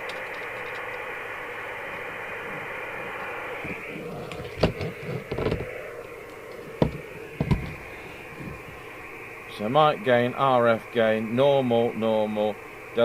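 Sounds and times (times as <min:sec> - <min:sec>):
radio receiver hiss: 0:00.0 - 0:13.0.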